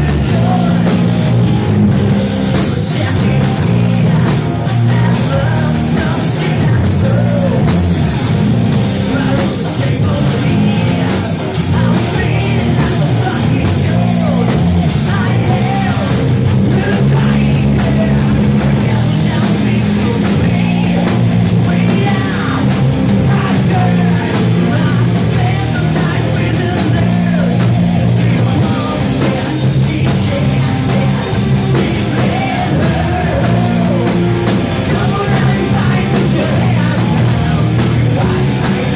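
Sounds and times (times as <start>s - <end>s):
person singing: 0.0s - 1.1s, 2.3s - 38.9s
rock band playing live: 0.0s - 38.9s.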